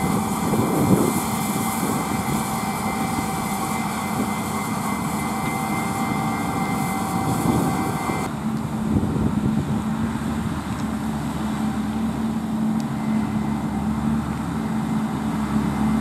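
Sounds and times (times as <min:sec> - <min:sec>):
thin high whine: 0:00.0 - 0:08.5, 0:11.6 - 0:16.0
dull engine drone: 0:00.0 - 0:16.0
machinery engine drone: 0:00.0 - 0:16.0.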